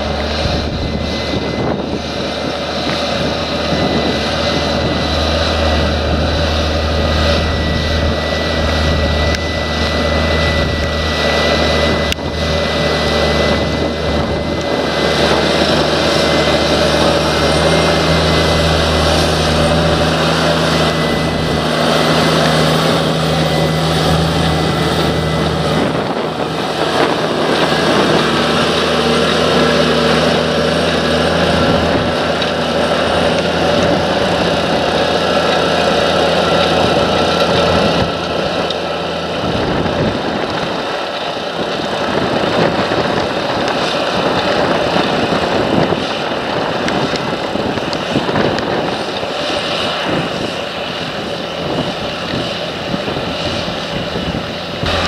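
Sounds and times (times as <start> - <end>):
steady high whine: 0.0 - 55.0
tractor diesel engine under load: 0.0 - 55.0.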